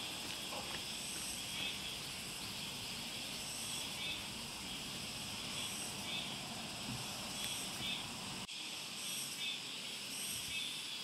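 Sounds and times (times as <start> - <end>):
high insect drone: 0.0 - 11.0
low hiss: 0.0 - 11.0.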